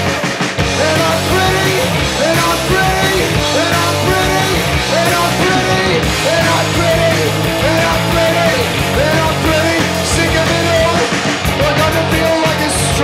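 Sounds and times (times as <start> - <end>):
electric guitar sliding riff: 0.0 - 13.0
punk rock band playing live: 0.0 - 13.0.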